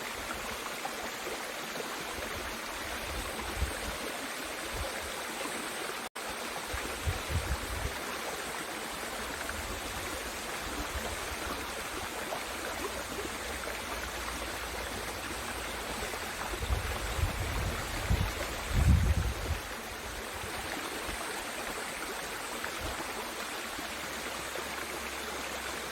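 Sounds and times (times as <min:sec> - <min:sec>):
stream rushing over rocks: 0:00.0 - 0:25.9.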